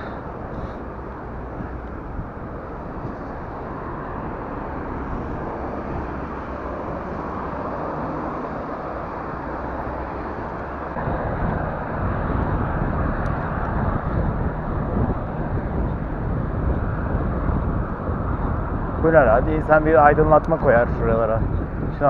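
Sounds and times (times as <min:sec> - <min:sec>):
bicycle road noise: 0:00.0 - 0:22.0
wind rushing: 0:00.0 - 0:22.0.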